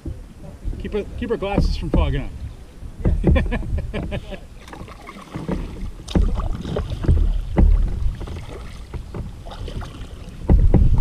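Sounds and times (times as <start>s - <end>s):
low rumbling water surges: 0.0s - 11.0s
paddle splashing in water: 0.0s - 11.0s.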